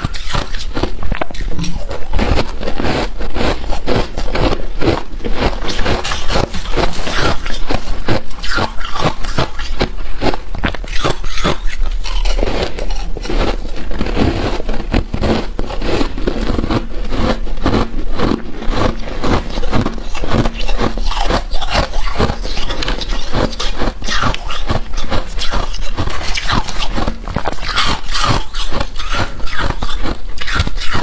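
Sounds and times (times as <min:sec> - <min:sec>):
frost being scraped and crunched: 0:00.0 - 0:31.0.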